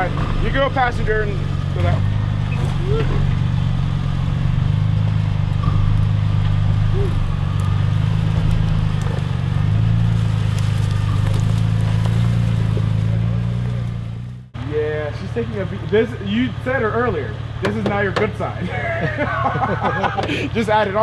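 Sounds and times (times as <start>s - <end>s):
truck engine low rumble: 0.0s - 21.0s.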